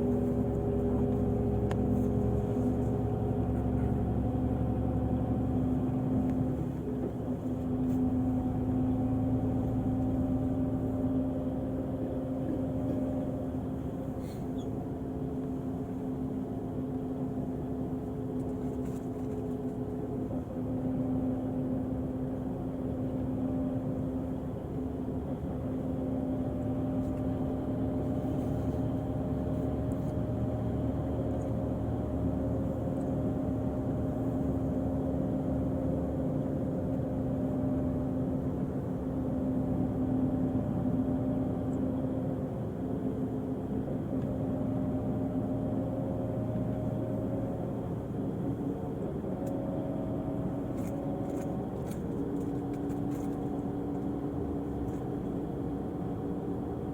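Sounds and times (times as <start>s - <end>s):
diesel engine droning: 0.0s - 56.9s.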